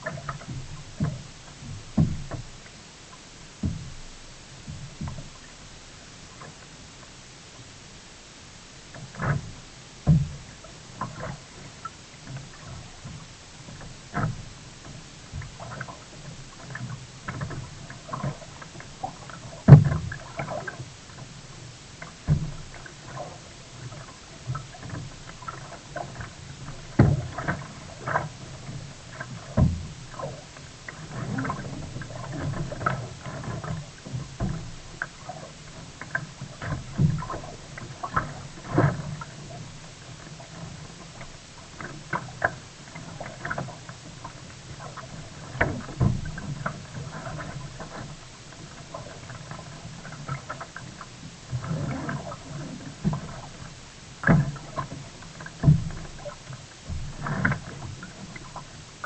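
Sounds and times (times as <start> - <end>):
kayak knocks and thuds: 0.0 - 5.6, 8.9 - 59.0.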